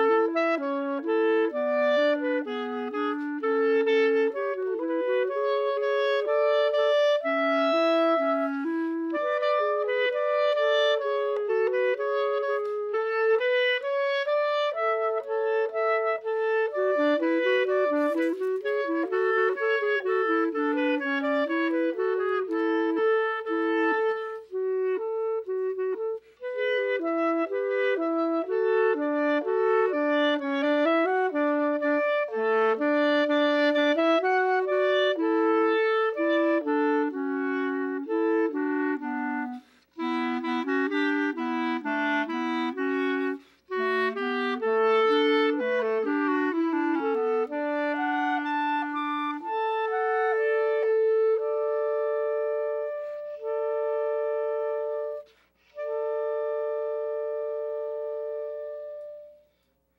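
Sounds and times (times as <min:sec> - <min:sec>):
solo wind instrument melody: 0:00.0 - 0:59.9.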